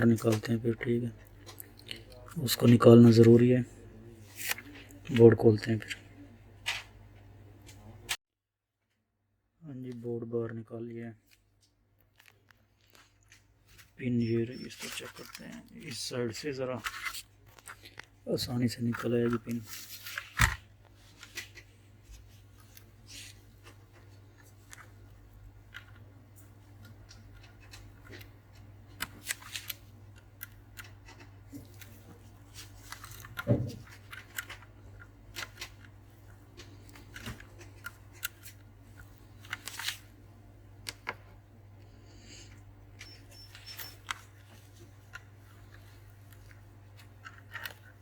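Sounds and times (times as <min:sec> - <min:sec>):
low steady hum: 0:09.2 - 0:48.0.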